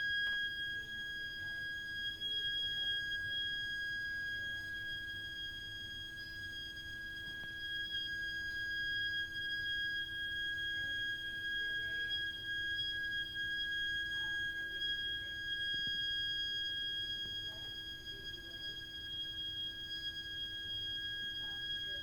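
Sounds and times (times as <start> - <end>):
shrill high-pitched pipe whistle: 0.0 - 22.0.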